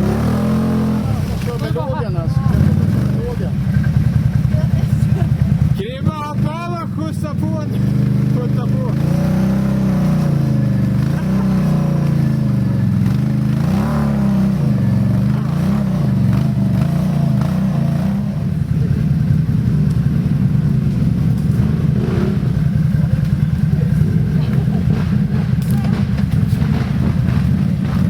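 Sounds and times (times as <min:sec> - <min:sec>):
quad engine revving: 0:00.0 - 0:28.0.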